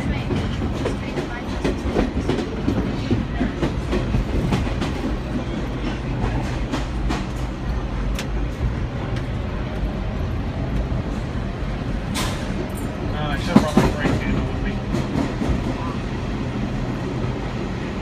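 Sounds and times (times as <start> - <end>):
subway train rumble and hum: 0.0 - 18.0.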